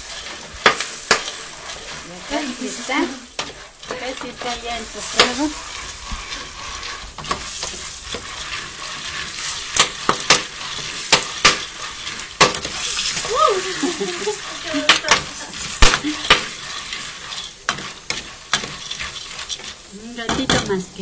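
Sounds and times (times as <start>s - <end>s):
popcorn popping: 0.0s - 20.9s
oil sizzling: 0.0s - 21.0s
wooden spoon stirring in pot: 0.0s - 21.0s.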